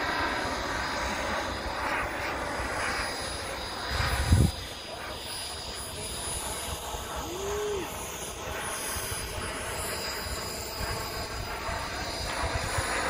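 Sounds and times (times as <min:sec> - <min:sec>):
model aircraft engine drone: 0:00.0 - 0:13.0.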